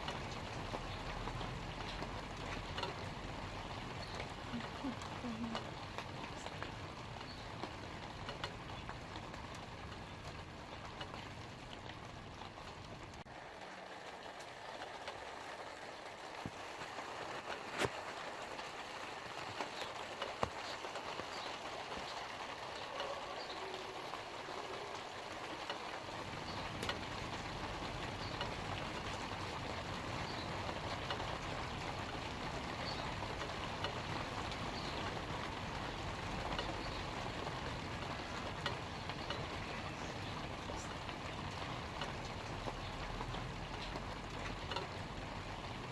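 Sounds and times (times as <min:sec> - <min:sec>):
light rain on leaves: 0:00.0 - 0:45.9.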